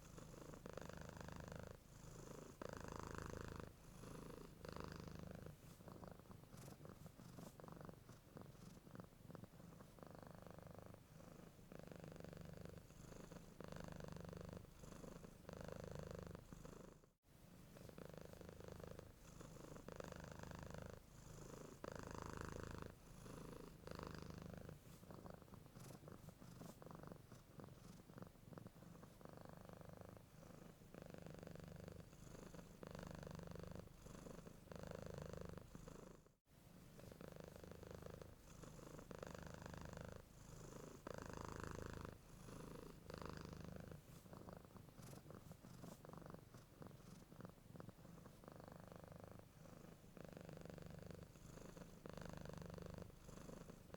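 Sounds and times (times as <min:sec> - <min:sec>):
cat purring: 0:00.0 - 0:53.9.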